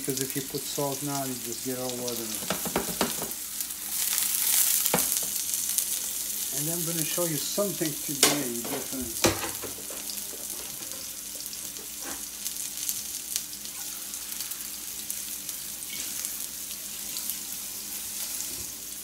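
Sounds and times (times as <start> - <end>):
mushrooms sizzling in oil: 0.0 - 19.0.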